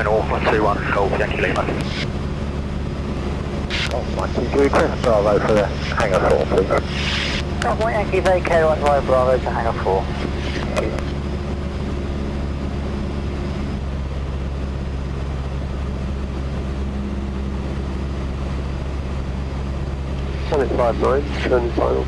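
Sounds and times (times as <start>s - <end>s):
airplane engine droning: 0.0s - 22.0s.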